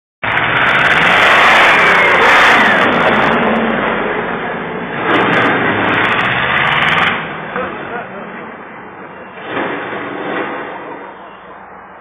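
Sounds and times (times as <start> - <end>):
tractor engine revving: 0.2 - 11.1.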